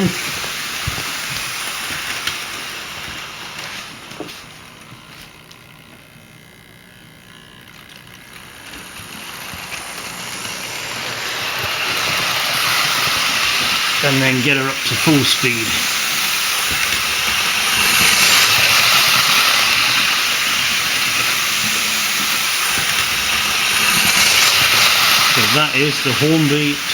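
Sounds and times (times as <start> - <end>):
model train whirring on rails: 0.0 - 26.9.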